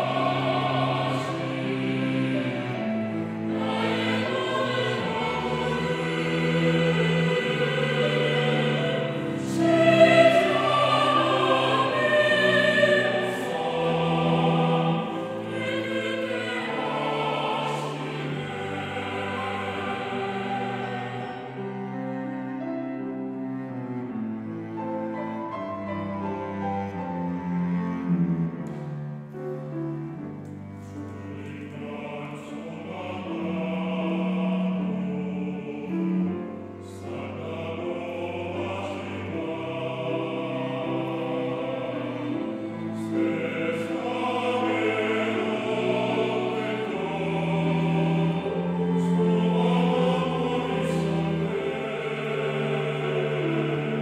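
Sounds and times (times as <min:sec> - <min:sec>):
mixed choir singing: 0:00.0 - 0:29.0, 0:30.4 - 0:54.0.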